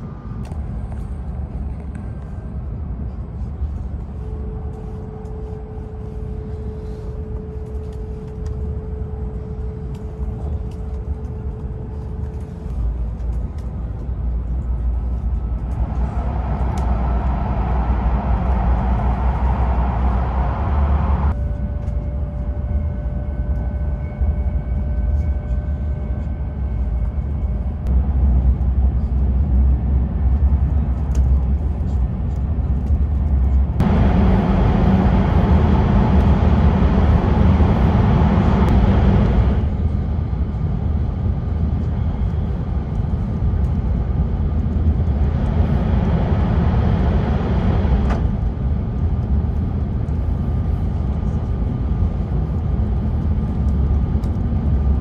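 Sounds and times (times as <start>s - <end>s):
faint whine tones: 0.0s - 55.0s
train cabin rumble: 0.0s - 55.0s.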